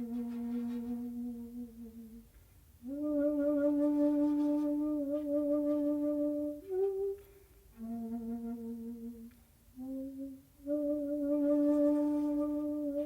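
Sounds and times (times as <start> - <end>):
bamboo flute slow notes: 0.0 - 13.0.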